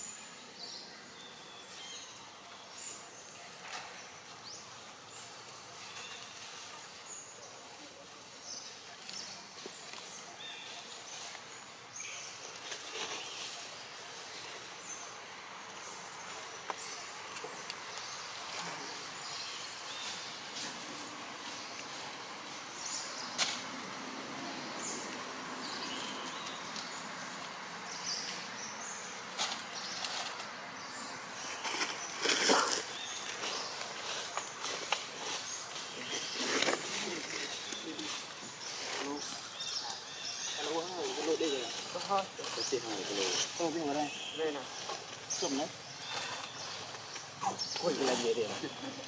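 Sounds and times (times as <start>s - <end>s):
dry leaves rustling: 1.5s - 49.0s.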